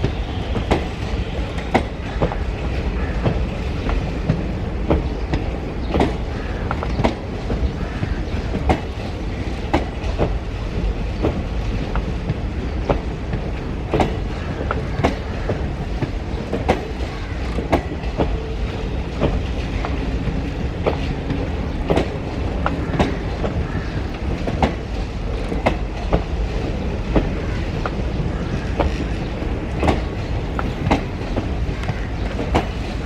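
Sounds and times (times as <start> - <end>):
train rumbling past: 0.0 - 33.0
wheels clicking over rail joints: 0.0 - 33.0.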